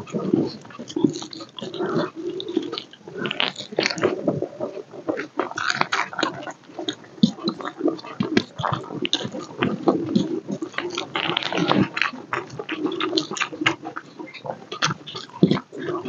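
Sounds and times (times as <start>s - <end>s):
chewing and mouth smacking: 0.1s - 16.0s.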